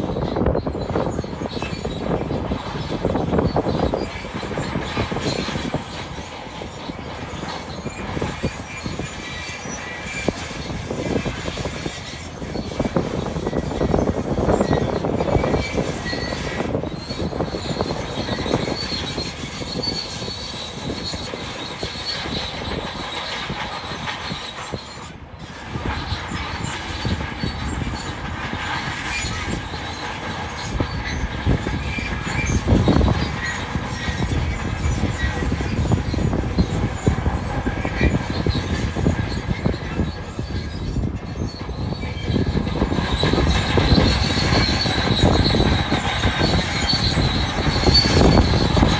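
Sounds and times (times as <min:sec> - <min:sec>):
diesel engine under load: 0:00.0 - 0:48.9
steady high squeal: 0:00.0 - 0:48.9
steel tracks clanking: 0:00.0 - 0:48.9.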